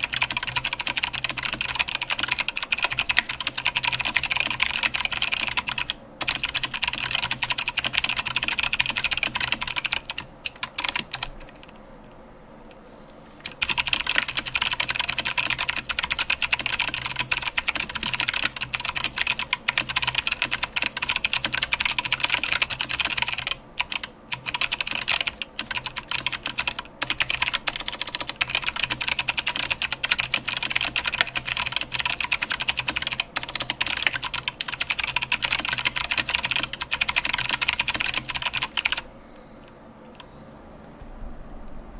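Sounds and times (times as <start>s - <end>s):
mechanical keyboard typing: 0.0s - 11.7s, 13.4s - 39.1s.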